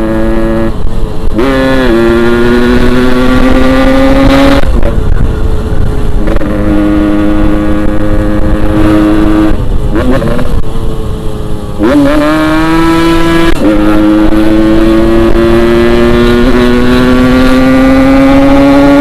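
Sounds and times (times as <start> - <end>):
two-stroke motorcycle engine revving: 0.0 - 5.2, 6.2 - 10.7, 11.7 - 19.0.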